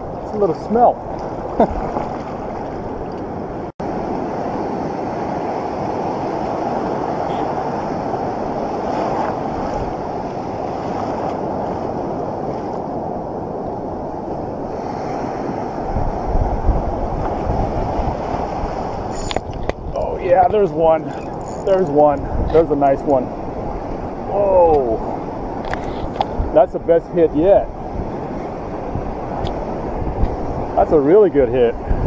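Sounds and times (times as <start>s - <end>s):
ocean surf breaking: 0.0s - 32.0s
wind buffeting microphone: 0.0s - 32.0s.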